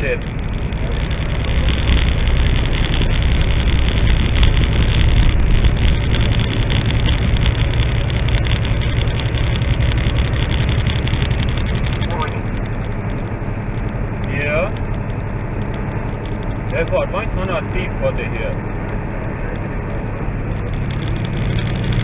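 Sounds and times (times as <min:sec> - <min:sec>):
diesel truck engine droning: 0:00.0 - 0:22.0
tyre and road noise: 0:00.0 - 0:22.0.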